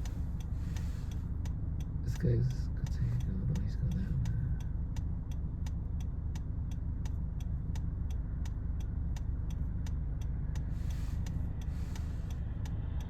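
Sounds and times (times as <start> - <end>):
road rumble inside car: 0.0 - 13.0.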